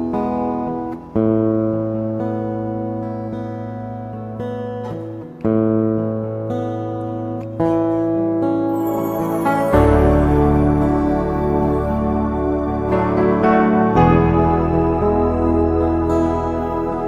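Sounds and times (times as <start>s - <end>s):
plucked guitar chords: 0.0s - 17.0s.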